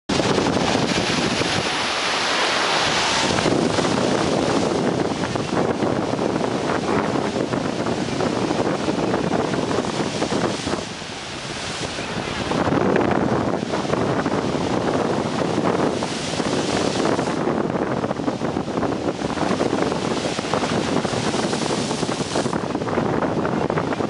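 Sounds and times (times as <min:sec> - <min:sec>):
surf on rocky shore: 0:00.1 - 0:24.0
wind buffeting microphone: 0:00.1 - 0:24.0.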